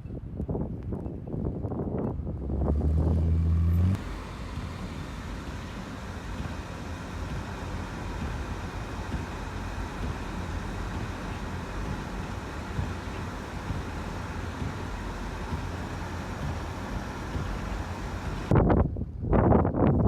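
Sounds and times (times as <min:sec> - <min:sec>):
road and tyre noise: 0:00.0 - 0:19.3
loud low engine hum: 0:02.2 - 0:18.6.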